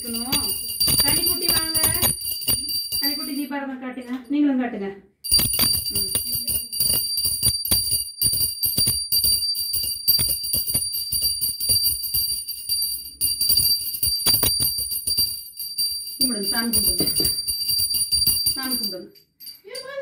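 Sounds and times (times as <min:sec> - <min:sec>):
hand bell rung rapidly: 0:00.0 - 0:03.5, 0:05.2 - 0:20.0.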